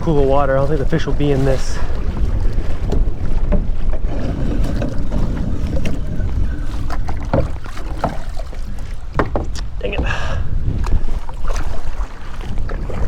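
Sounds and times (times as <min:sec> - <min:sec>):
water splashing against kayak: 0:00.0 - 0:13.0
wind buffeting microphone: 0:00.0 - 0:13.0.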